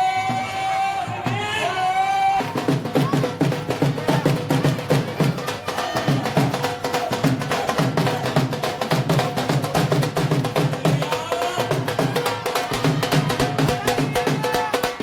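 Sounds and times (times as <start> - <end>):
rapid drumming: 0.0 - 15.0.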